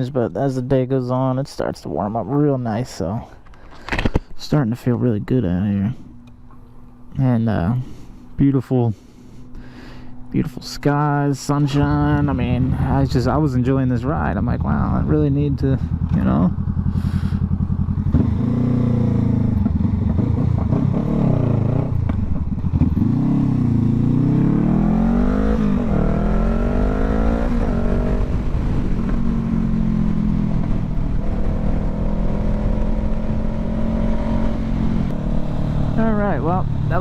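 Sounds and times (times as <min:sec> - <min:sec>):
motorcycle engine revving: 0:05.4 - 0:37.0.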